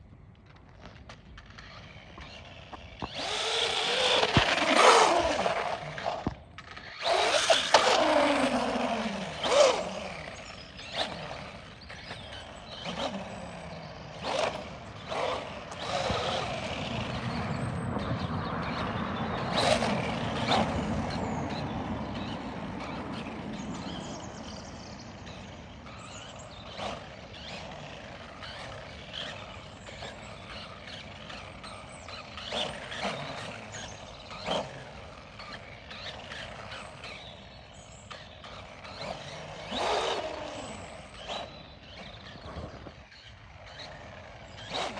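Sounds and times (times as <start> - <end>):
tyres on rough ground: 0.0 - 44.9
electric motor whine: 0.6 - 44.9.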